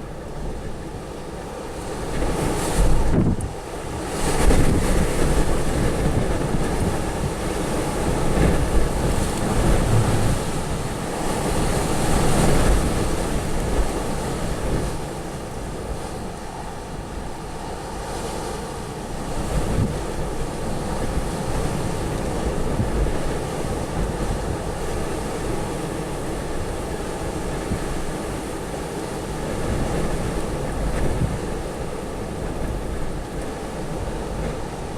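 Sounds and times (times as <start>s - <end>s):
storm wind gusting: 0.0s - 34.9s
wind rumbling on microphone: 0.0s - 34.9s.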